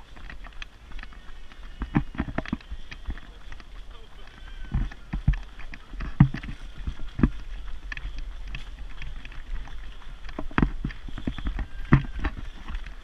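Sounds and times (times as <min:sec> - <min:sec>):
low rumble of wind: 0:00.0 - 0:13.0
running footsteps on tarmac: 0:00.0 - 0:13.0.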